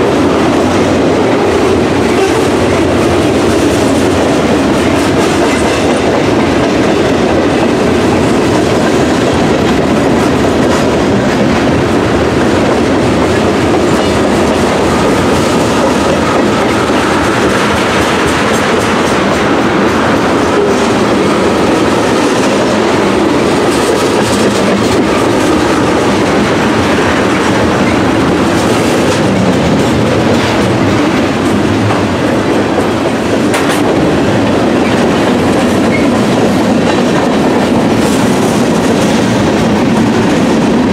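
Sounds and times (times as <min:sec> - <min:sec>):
train wheels clacking on rails: 0:00.0 - 0:40.9.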